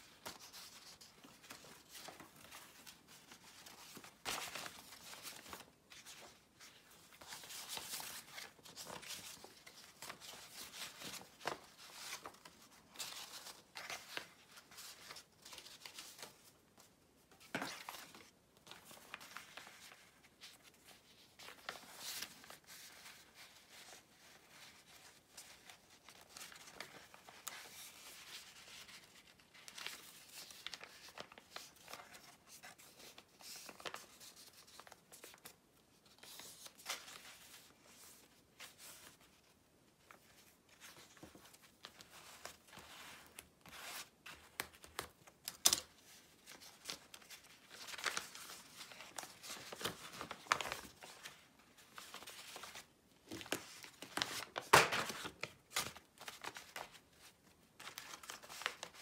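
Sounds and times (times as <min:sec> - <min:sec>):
paper rustling and crinkling: 0:00.0 - 0:59.0.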